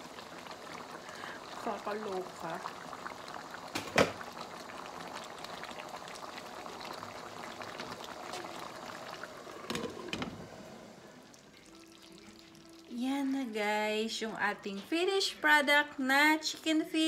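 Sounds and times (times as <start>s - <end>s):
sauce bubbling and sizzling: 0.0s - 15.4s.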